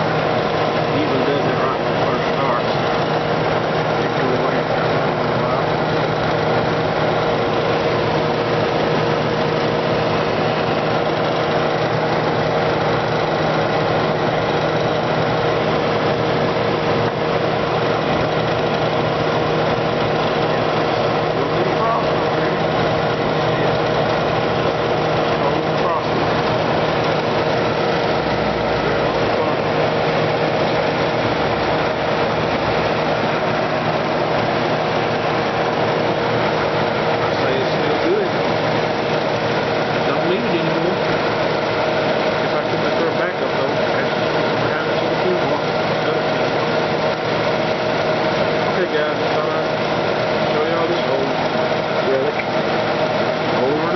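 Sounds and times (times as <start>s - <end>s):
compressor humming: 0.0s - 53.9s
fan rushing: 0.0s - 53.9s.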